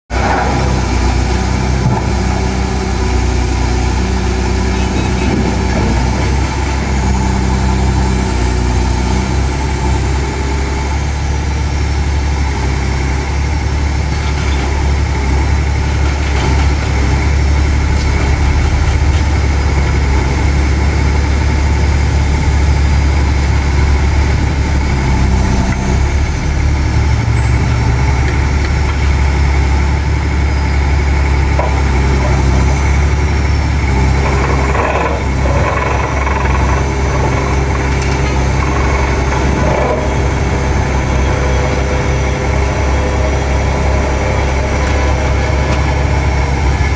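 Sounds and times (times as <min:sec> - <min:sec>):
diesel engine under load: 0:00.1 - 0:46.9
vibratory pile hammer humming: 0:00.1 - 0:46.9.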